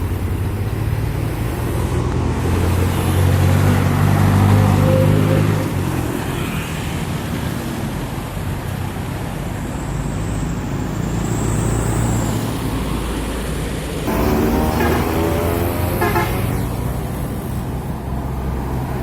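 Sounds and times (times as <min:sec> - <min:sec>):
heavy engine drone: 0:00.0 - 0:18.8
traffic rumble: 0:00.0 - 0:19.0
vehicle with pitched tone: 0:00.0 - 0:19.0.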